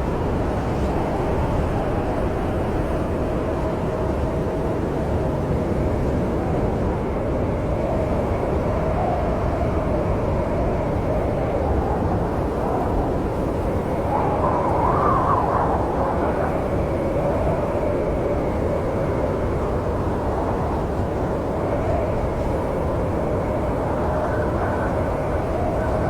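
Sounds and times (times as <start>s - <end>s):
snowstorm wind rushing: 0.0s - 26.0s
wind whistling: 0.0s - 26.0s.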